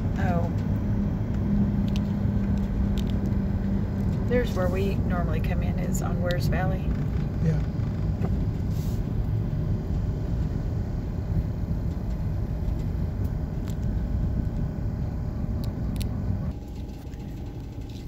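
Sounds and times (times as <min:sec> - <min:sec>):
road and engine rumble in car: 0:00.0 - 0:18.0.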